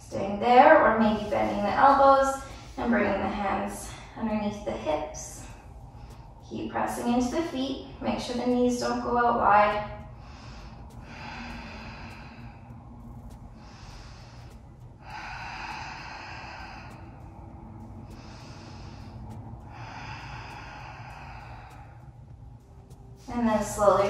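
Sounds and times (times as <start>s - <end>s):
woman breathing: 0.8s - 6.5s, 10.0s - 24.0s.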